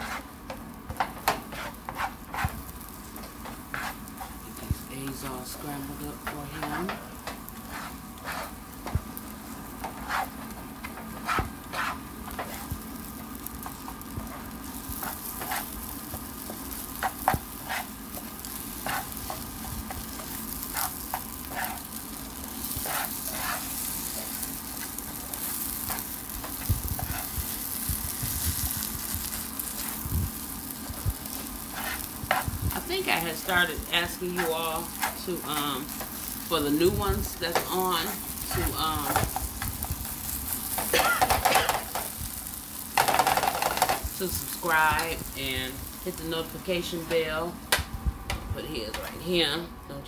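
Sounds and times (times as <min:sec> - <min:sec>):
spatula scraping skillet: 0:00.0 - 0:47.3
eggs frying sizzle: 0:00.0 - 0:48.0.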